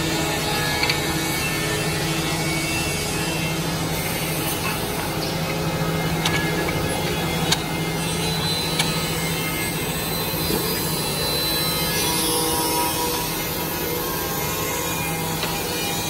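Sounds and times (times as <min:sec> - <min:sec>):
woodworking machine humming: 0:00.0 - 0:16.0.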